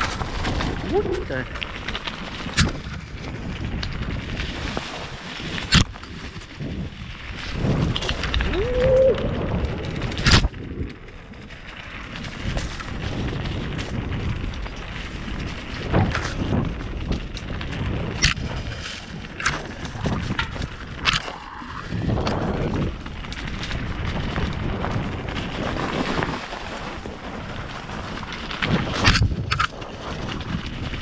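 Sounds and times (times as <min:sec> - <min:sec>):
bike rattling over bumps: 0:00.0 - 0:31.0
tyres running over ground: 0:00.0 - 0:31.0
wind rumble on microphone: 0:00.0 - 0:31.0.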